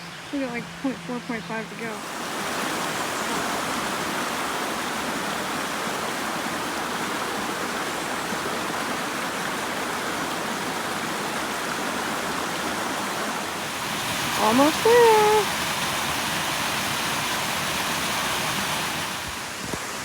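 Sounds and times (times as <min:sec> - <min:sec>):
creek rushing over rocks: 0:00.4 - 0:20.0.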